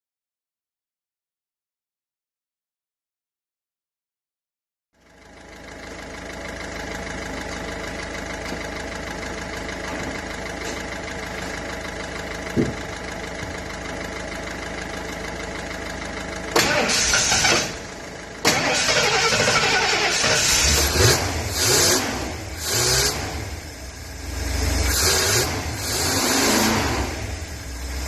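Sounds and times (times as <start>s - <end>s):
engine idling: 5.0s - 28.0s.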